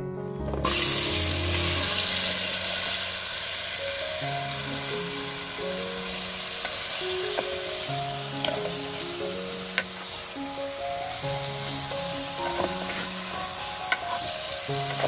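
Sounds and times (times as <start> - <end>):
food sizzling in hot oil: 0.5 - 15.0.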